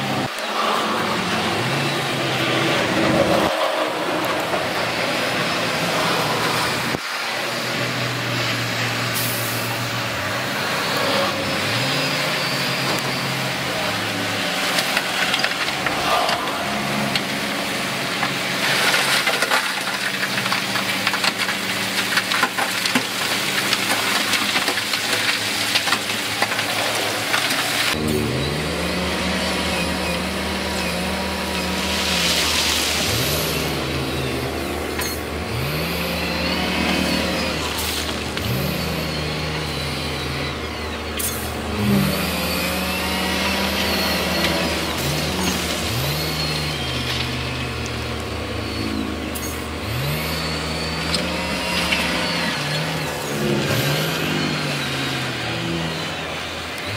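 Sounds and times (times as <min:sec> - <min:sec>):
diesel engine revving: 0:00.0 - 0:56.9
heavy diesel machinery engine: 0:00.0 - 0:56.9.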